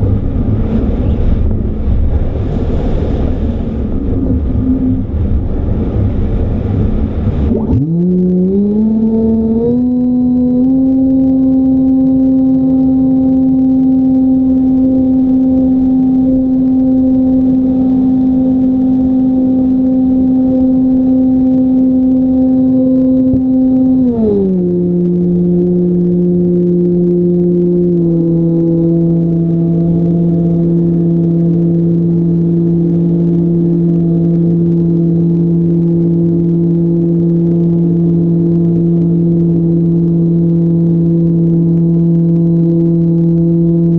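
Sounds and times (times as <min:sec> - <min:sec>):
wind rumbling on microphone: 0:00.0 - 0:43.9.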